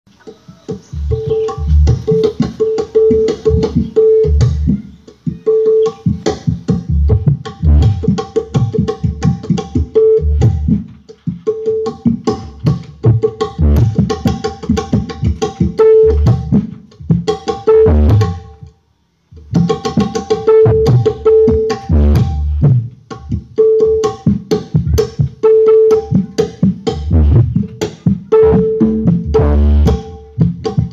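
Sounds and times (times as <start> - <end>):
hand drum music over loudspeakers: 0.3 - 18.7, 19.4 - 30.9.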